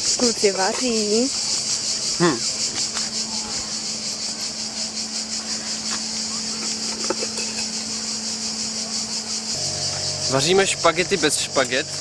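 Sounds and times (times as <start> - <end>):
cicadas buzzing: 0.0 - 12.0
steady low hum: 1.3 - 12.0.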